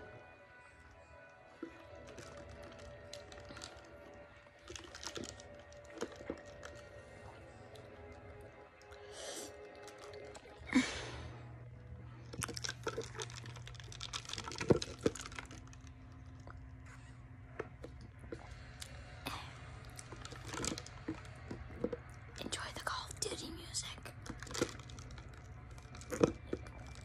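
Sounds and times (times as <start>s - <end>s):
plastic cup and lid crackling: 1.2s - 10.8s, 12.2s - 27.0s.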